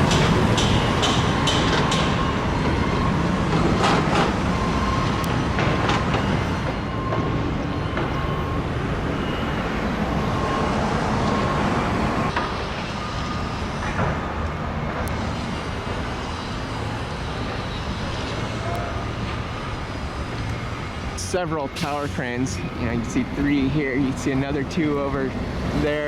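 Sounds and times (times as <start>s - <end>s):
road traffic vehicles passing: 0.0s - 26.0s.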